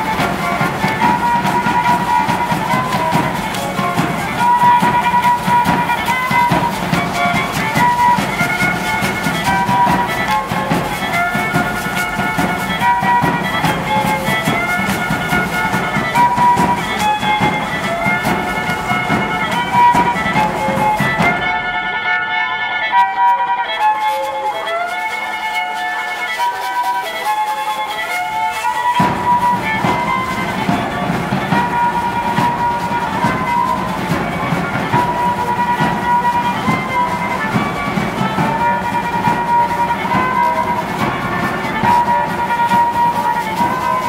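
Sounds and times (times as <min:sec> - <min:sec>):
steady percussive clatter: 0:00.0 - 0:44.0
violin playing a repeating melody: 0:00.0 - 0:44.0.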